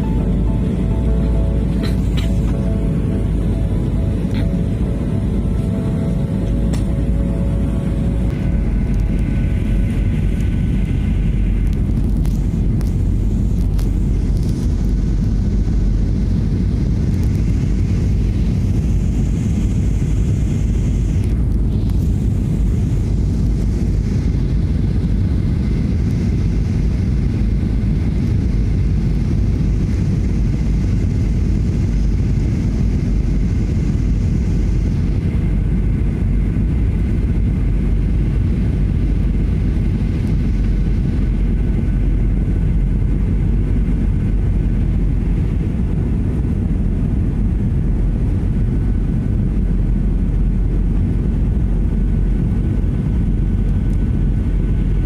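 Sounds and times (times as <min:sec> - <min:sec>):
faint steady whine: 0:00.0 - 0:55.0
jet engines and airflow rumble: 0:00.0 - 0:55.0.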